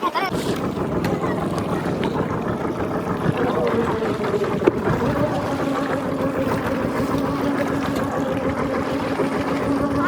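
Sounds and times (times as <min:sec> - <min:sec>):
boat engine running: 0:00.0 - 0:10.0
water noise: 0:00.0 - 0:10.0
wind: 0:00.0 - 0:10.0.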